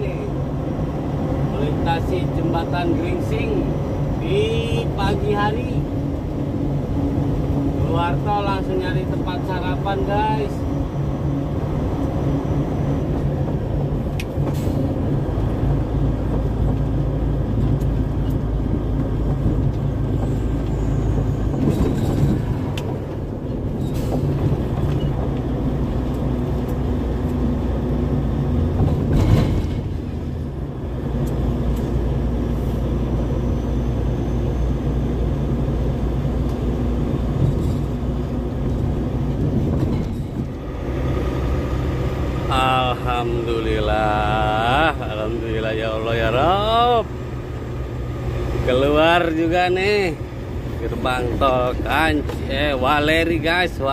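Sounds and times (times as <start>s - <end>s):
diesel engine running: 0.0s - 53.9s
road noise: 0.0s - 53.9s.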